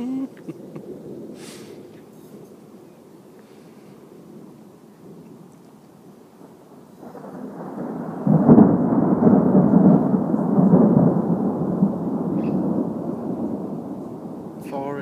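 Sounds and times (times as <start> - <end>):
rolling thunder: 0.5 - 15.0.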